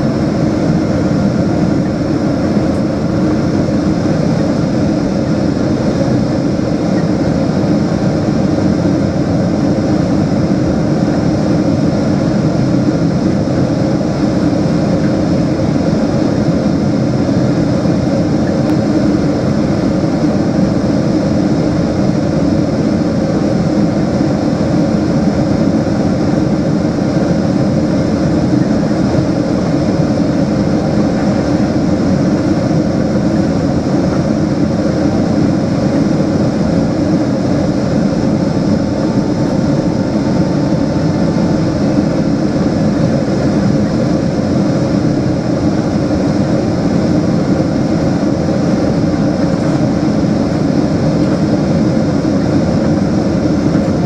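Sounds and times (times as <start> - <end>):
jet engines: 0.0 - 54.0
rushing airflow: 0.0 - 54.0.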